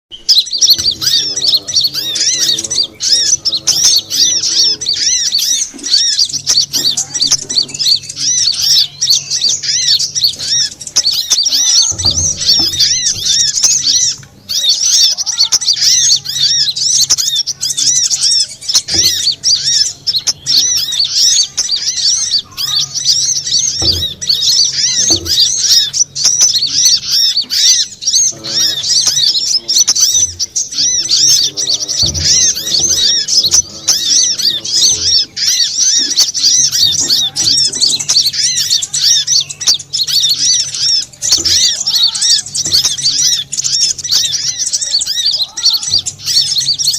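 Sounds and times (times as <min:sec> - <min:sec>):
sunbirds chirping and trilling: 0:00.0 - 0:46.9.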